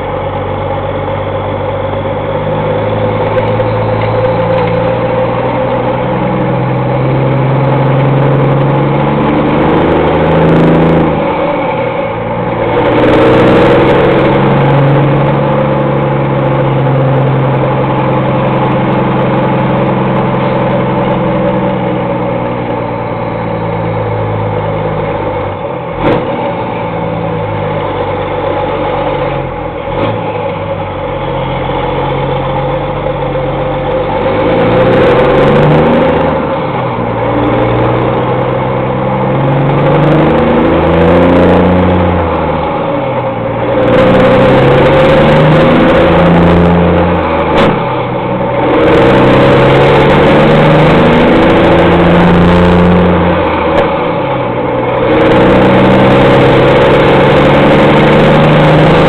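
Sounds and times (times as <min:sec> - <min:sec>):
loud diesel truck engine: 0:00.0 - 0:59.0.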